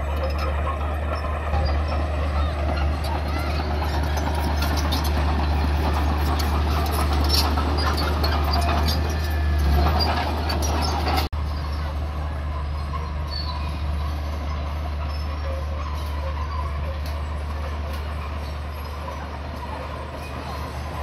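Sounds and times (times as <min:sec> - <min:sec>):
bulldozer diesel engine running: 0:00.0 - 0:21.0
steel tracks clanking and rattling: 0:00.0 - 0:21.0.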